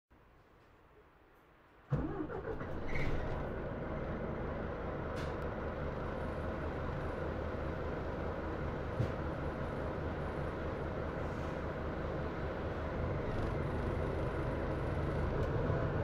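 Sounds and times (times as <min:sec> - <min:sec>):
bus diesel engine starting and idling: 0:01.9 - 0:16.0.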